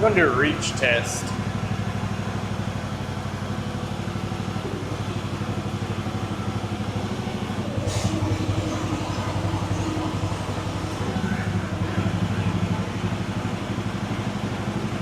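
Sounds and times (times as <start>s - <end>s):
mini excavator engine running: 0.0s - 15.0s.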